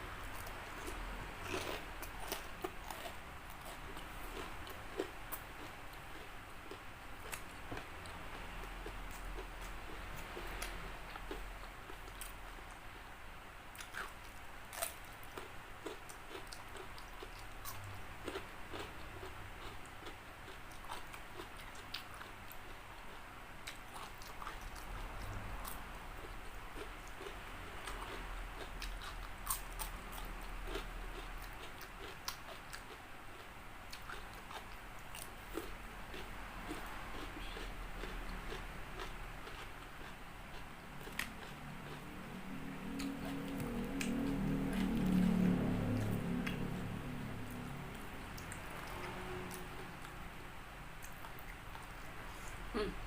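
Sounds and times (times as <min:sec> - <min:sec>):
person chewing crispy chicken: 0:00.3 - 0:12.7, 0:13.7 - 0:50.2.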